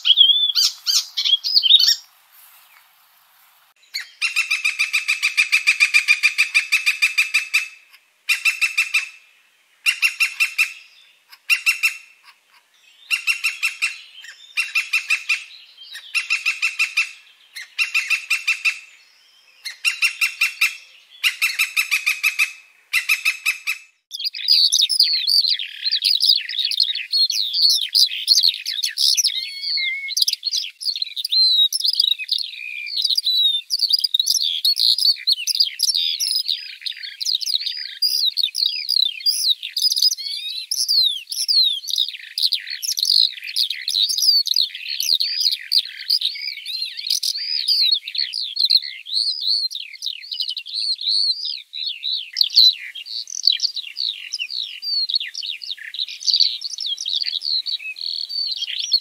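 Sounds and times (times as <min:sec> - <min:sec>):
small birds twittering: 0:00.0 - 0:02.9, 0:03.7 - 0:23.4, 0:24.0 - 0:59.0.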